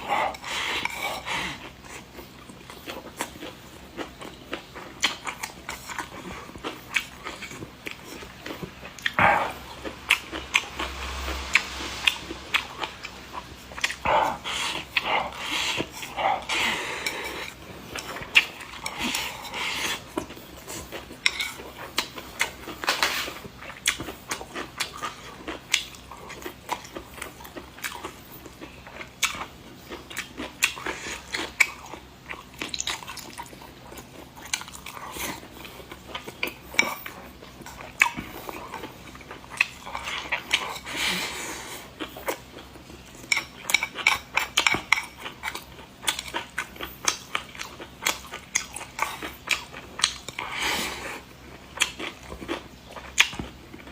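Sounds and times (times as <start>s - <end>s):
chewing and wet mouth noises: 0.0s - 53.9s.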